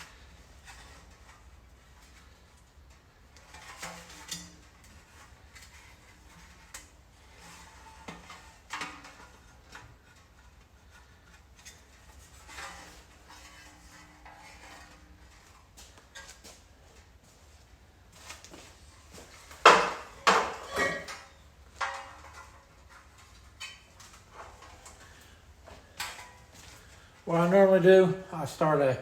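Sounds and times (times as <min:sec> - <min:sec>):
metal clinks and scrapes: 0:00.0 - 0:17.3, 0:18.3 - 0:27.2.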